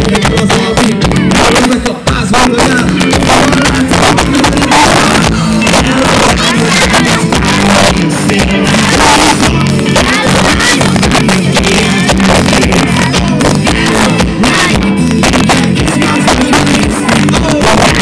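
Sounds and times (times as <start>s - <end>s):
live pop-rock band: 0.0s - 18.0s
man singing into a microphone: 0.0s - 18.0s.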